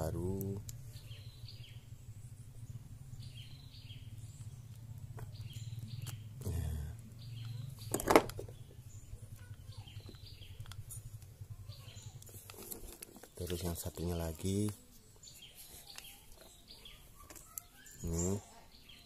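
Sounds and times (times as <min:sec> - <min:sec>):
steady low hum: 0:00.0 - 0:17.2
birds chirping: 0:00.0 - 0:19.0.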